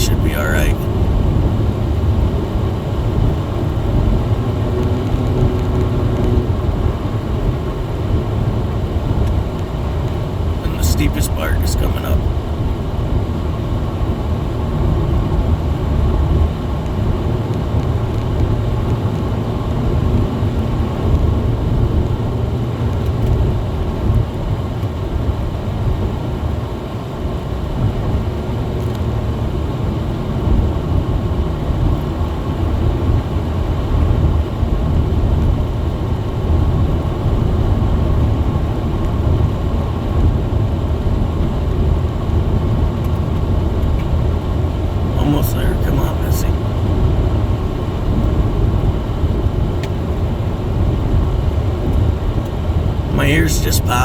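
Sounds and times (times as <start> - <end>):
car engine rumble in cabin: 0.0 - 54.0.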